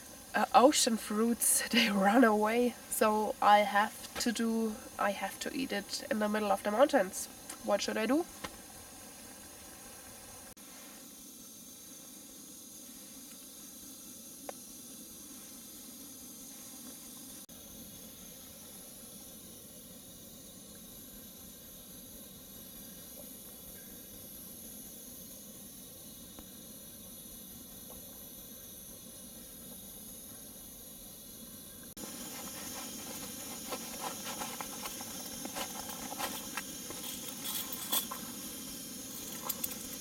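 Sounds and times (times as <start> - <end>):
stove burner hissing: 0.0 - 40.0.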